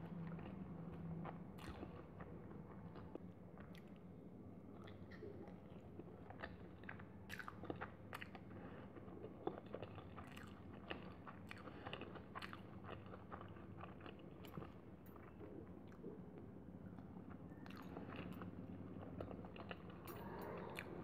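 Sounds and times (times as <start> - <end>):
person chewing: 1.2 - 4.0, 4.8 - 21.0.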